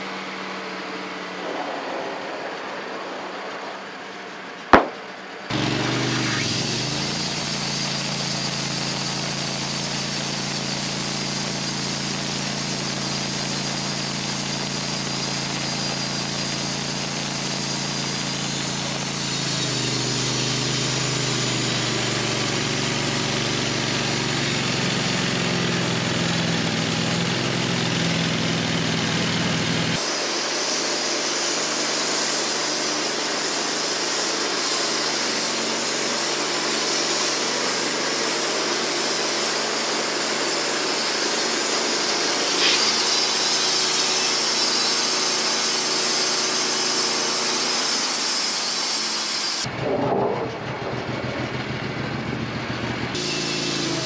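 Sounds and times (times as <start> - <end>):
band sawmill cutting log: 0.0 - 54.0.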